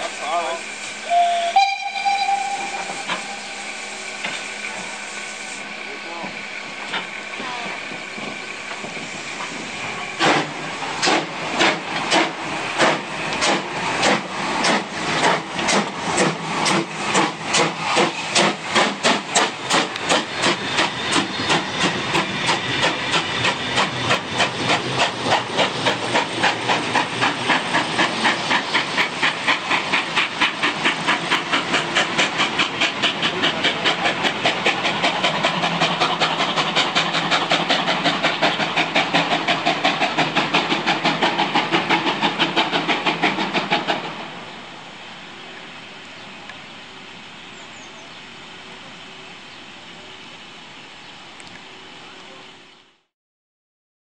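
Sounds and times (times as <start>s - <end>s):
steam locomotive exhaust chuffs: 0.0s - 44.8s
steam hissing: 0.0s - 50.8s.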